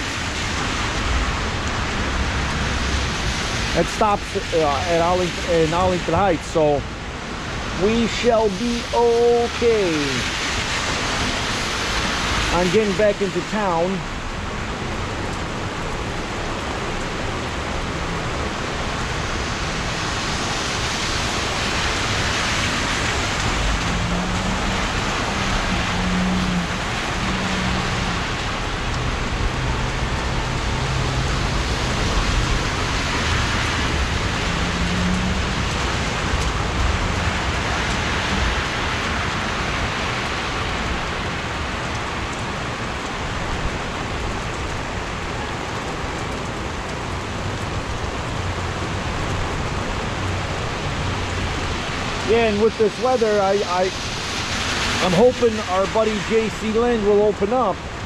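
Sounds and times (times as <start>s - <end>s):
heavy rain on umbrella: 0.0s - 58.0s.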